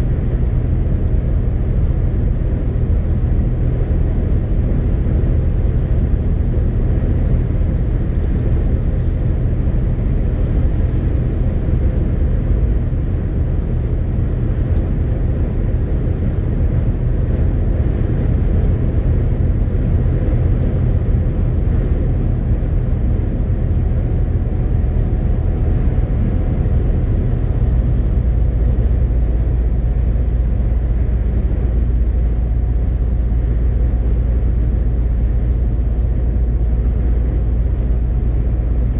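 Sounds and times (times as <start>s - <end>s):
road noise: 0.0s - 38.9s
truck diesel engine running: 0.0s - 38.9s.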